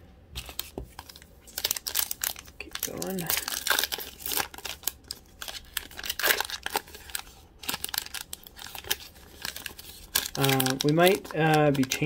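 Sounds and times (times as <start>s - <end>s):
foil and plastic crinkling: 0.4s - 12.0s.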